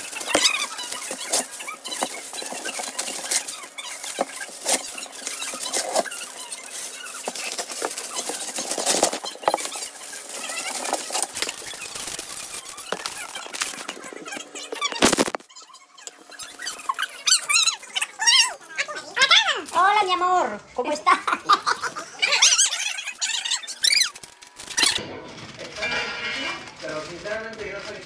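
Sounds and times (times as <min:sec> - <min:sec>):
aluminium foil crinkling: 0:00.0 - 0:20.3, 0:21.8 - 0:28.0.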